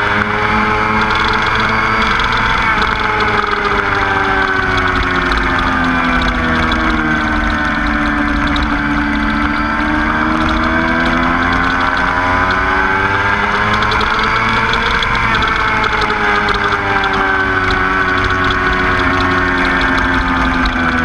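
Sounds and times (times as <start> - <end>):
motorcycle engine revving: 0.0 - 21.0
wind and road rumble: 0.0 - 21.0.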